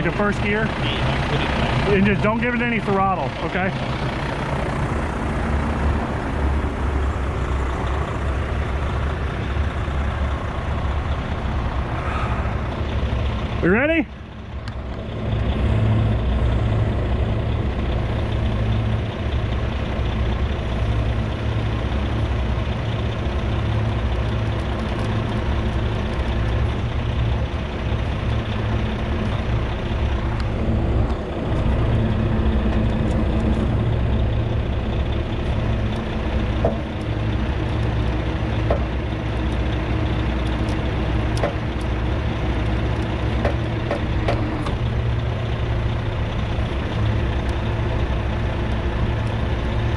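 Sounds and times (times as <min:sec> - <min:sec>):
diesel truck engine running: 0:00.0 - 0:49.9.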